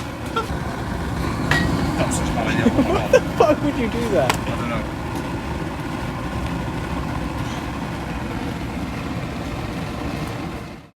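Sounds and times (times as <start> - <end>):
faint constant tone: 0.0 - 10.9
mini jet engine rushing: 0.0 - 10.9.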